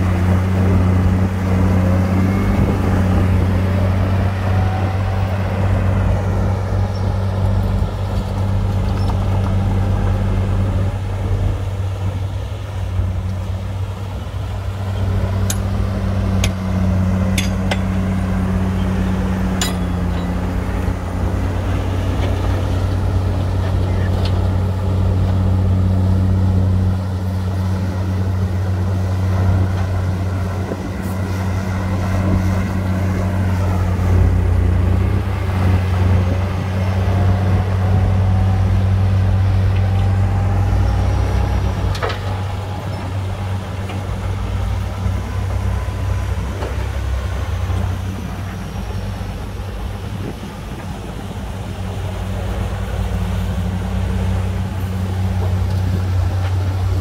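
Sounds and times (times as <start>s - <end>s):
diesel machine engine droning: 0.0s - 57.0s.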